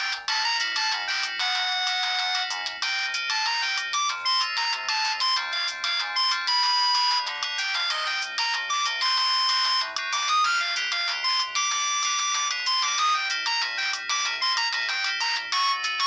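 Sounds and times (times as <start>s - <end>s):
polyphonic phone ringtone: 0.0s - 16.0s.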